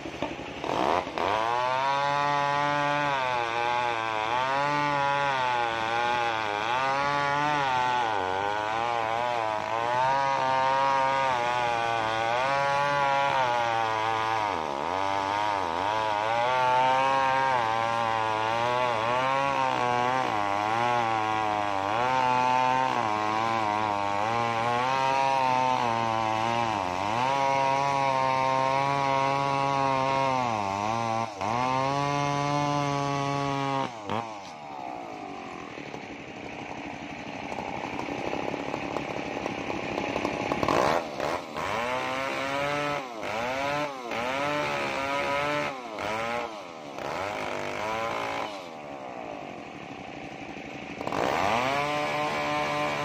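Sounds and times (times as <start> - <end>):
chainsaw cutting log: 0.0 - 53.0
chainsaw revving: 0.0 - 53.0.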